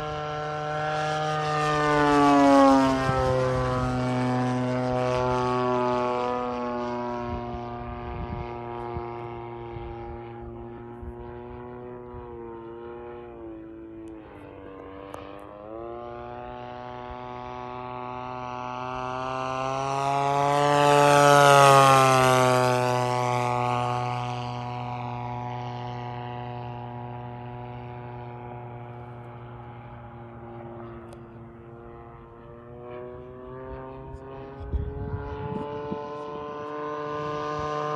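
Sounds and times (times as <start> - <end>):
model plane engine flying past: 0.0 - 37.9.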